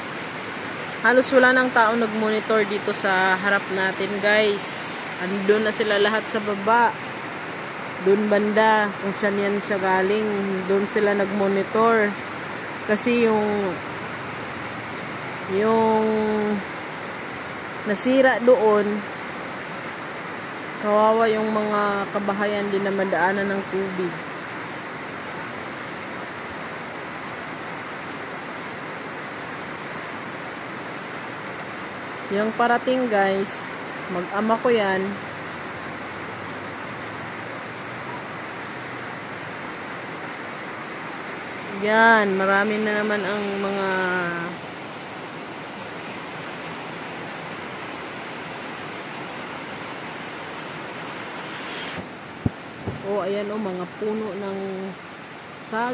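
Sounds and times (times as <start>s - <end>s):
flooded river rushing: 0.0s - 55.9s
heavy rain downpour: 0.0s - 55.9s.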